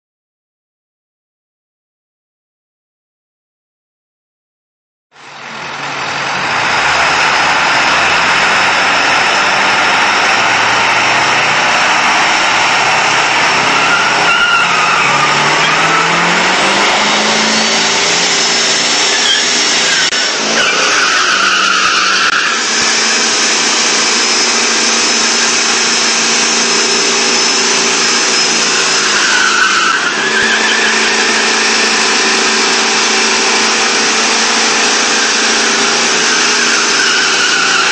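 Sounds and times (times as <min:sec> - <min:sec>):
diesel truck engine accelerating: 0:05.1 - 0:37.9.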